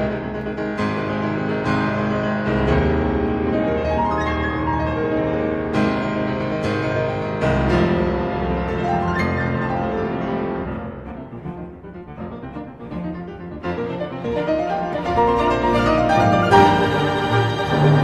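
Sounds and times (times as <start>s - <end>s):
piano with sustained low notes: 0.0s - 18.0s.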